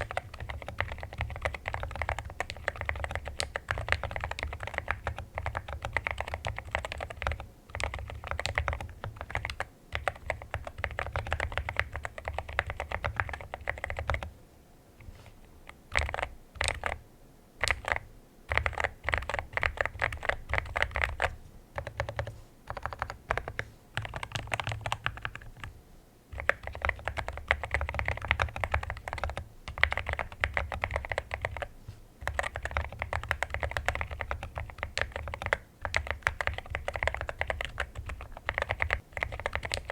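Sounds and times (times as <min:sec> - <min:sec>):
mechanical keyboard typing: 0:00.0 - 0:14.3, 0:15.7 - 0:17.0, 0:17.6 - 0:25.7, 0:26.3 - 0:39.9.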